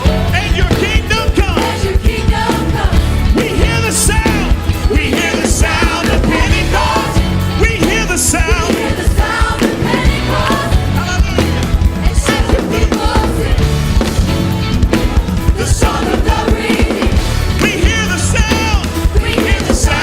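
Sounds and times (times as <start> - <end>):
bass: 0.0 - 20.0
drums: 0.0 - 20.0.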